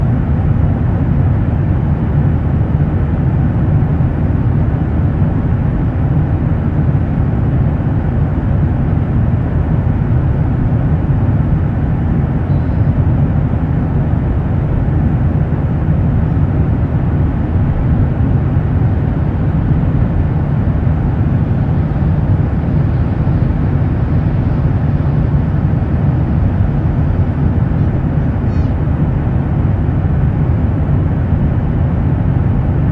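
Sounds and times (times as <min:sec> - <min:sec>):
jet airliner landing in wind: 0:00.0 - 0:32.9.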